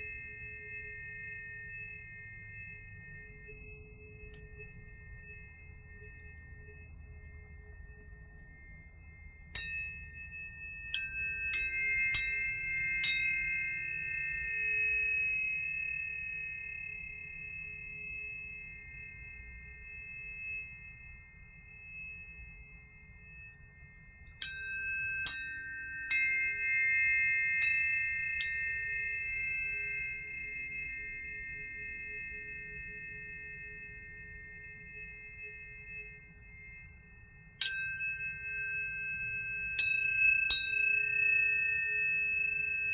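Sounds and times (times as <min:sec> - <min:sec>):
tuning forks struck and ringing: 0:00.0 - 0:42.9.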